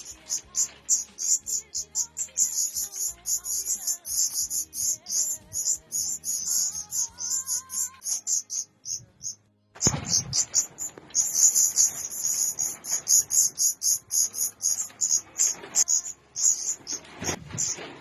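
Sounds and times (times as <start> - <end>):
young birds chirping: 0.0 - 18.0.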